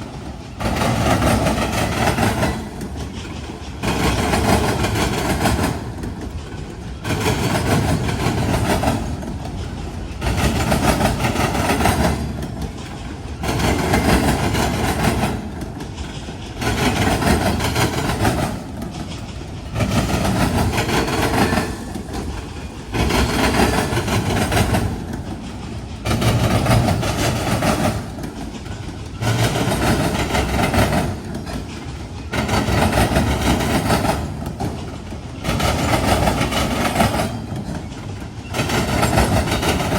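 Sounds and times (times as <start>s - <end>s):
train wheels pounding over crossing: 0.0s - 39.9s.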